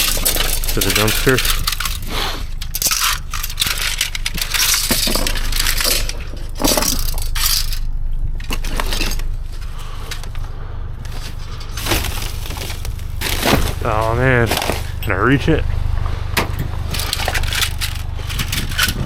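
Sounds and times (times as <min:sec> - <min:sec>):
debris rummaged in a dumpster: 0:00.0 - 0:19.0
steady low rumble: 0:00.0 - 0:19.0.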